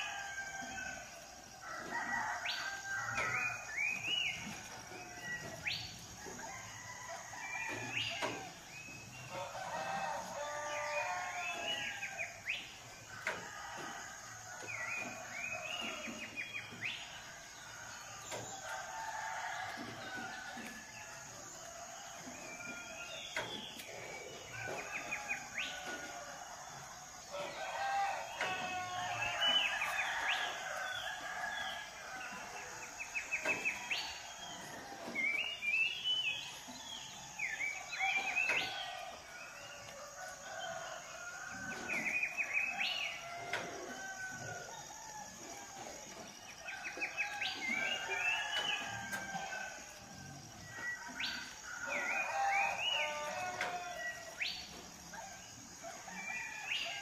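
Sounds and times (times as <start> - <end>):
rooster crowing: 0.0 - 8.6, 9.3 - 35.9, 37.7 - 57.0.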